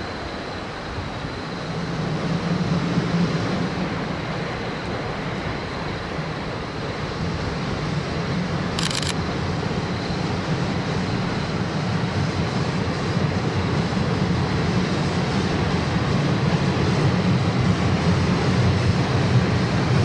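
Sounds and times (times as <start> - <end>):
steam train rumble: 0.0 - 20.0.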